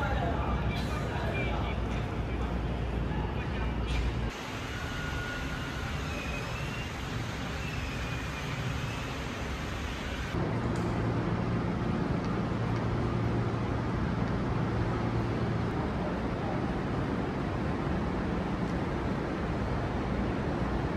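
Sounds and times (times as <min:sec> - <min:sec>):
vehicle engine hum: 0:00.0 - 0:20.9.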